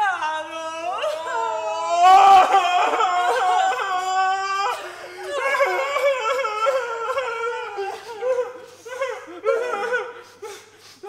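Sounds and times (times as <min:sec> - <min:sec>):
person wailing: 0:00.0 - 0:10.2.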